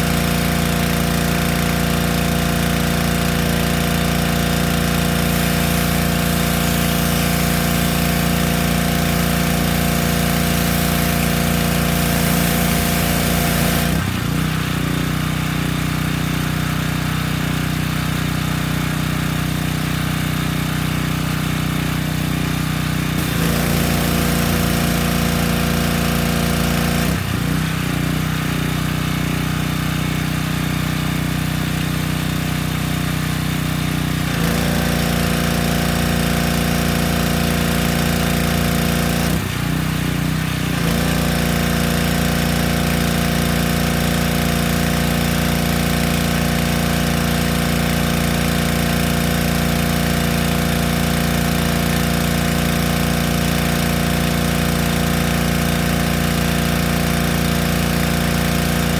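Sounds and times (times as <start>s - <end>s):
pressure washer engine running: 0.0s - 58.9s.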